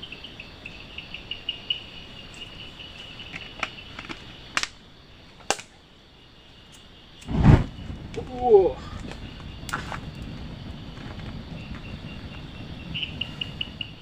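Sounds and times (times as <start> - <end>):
faint insect hum: 0.0 - 14.0
insects chirping: 0.0 - 14.0.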